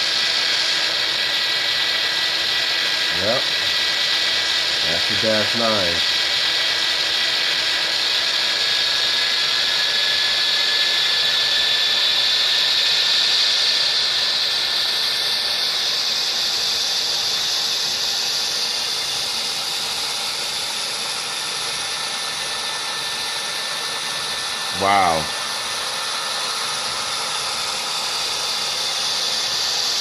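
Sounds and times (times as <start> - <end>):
model locomotive hiss and whine: 0.0 - 30.0.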